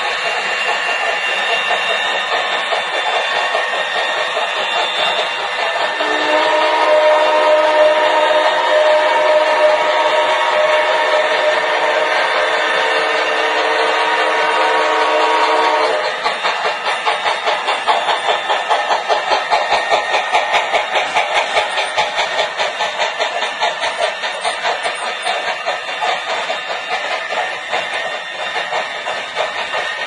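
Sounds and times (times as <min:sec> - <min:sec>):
model train rhythmic clatter: 0:00.0 - 0:30.0.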